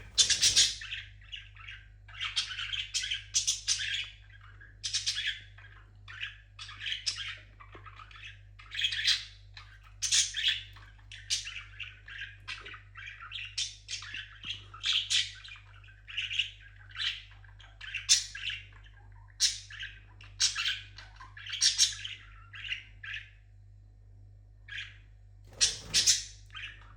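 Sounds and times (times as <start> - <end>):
parrot chirping and squawking: 0.0 - 23.4, 24.7 - 26.9.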